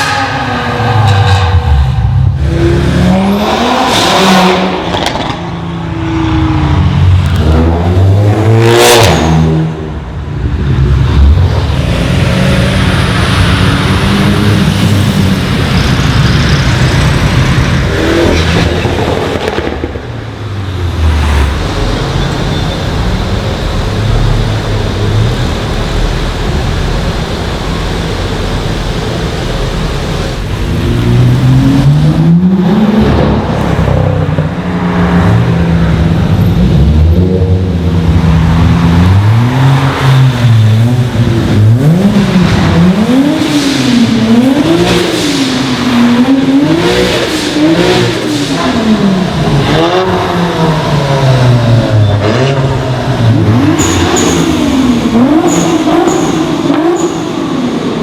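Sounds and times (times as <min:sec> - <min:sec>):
engine and traffic noise: 0:00.0 - 0:58.0
cars accelerating past: 0:10.6 - 0:58.0.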